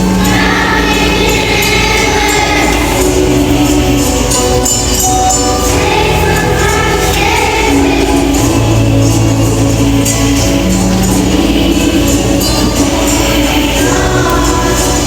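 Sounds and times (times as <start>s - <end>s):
choir singing to music: 0.0s - 15.0s
tambourine jingling: 0.0s - 15.0s.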